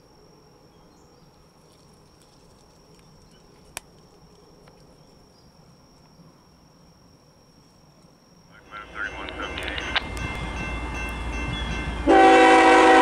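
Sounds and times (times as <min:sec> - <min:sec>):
low background noise: 0:00.0 - 0:11.5
insect call high tone: 0:00.0 - 0:13.0.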